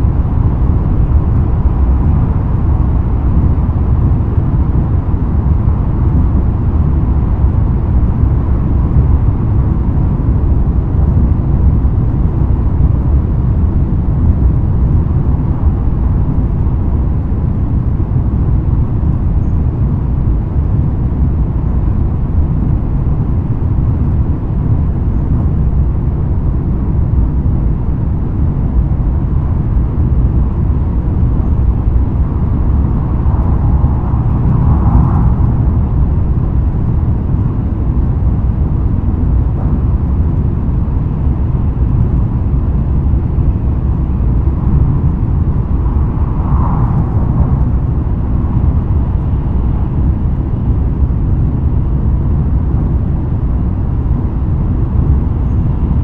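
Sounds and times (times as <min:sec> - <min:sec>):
train interior rumble: 0:00.0 - 0:56.0.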